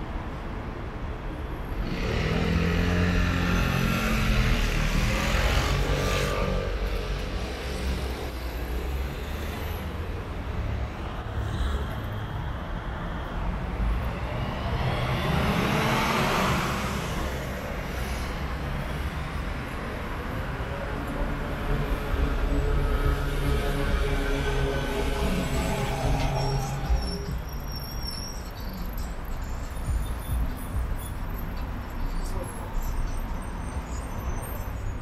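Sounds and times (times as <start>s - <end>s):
low traffic rumble: 0.0s - 35.0s
cars passing close by: 1.6s - 35.0s.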